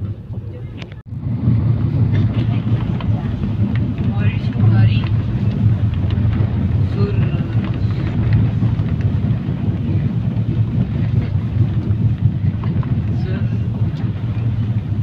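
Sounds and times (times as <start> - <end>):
vehicle rumble inside cabin: 0.0 - 15.0.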